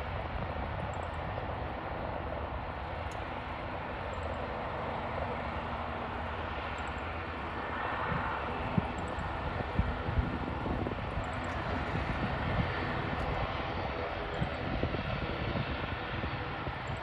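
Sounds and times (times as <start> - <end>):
distant airliner engines: 0.0 - 17.0.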